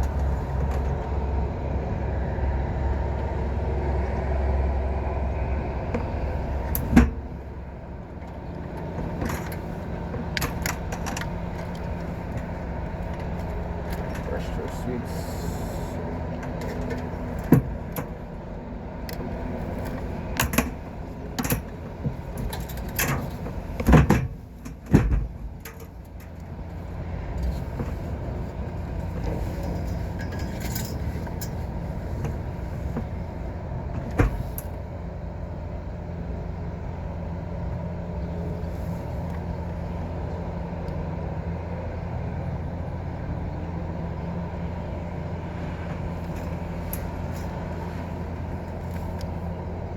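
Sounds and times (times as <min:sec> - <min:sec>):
machinery hum: 0:00.0 - 0:49.9.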